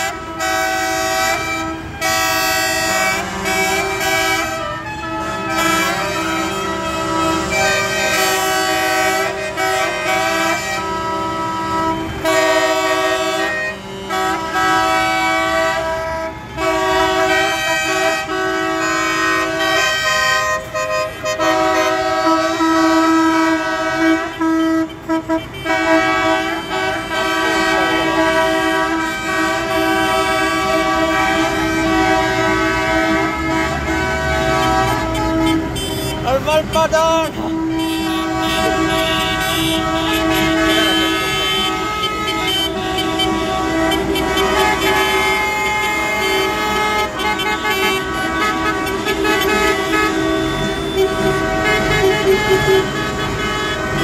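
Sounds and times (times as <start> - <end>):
tractor engines rumbling: 0.0 - 54.0
vehicle horns blaring: 0.0 - 54.0.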